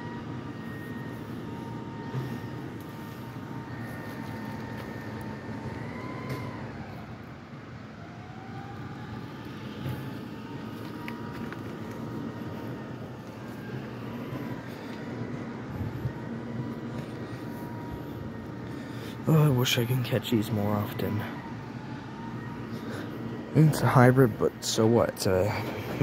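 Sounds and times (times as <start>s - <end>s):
garbage truck low rumble: 0.0s - 24.7s
garbage truck whine: 0.0s - 26.0s.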